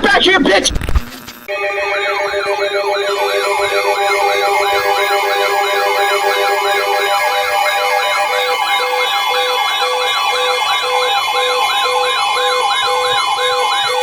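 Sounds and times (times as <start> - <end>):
low pulsing beep: 1.5 - 14.0
siren sweeps: 1.5 - 14.0
steady alarm tones: 1.5 - 14.0.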